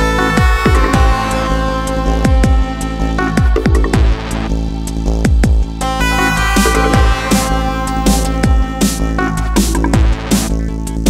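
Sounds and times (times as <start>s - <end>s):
electronic dance music: 0.0s - 10.7s.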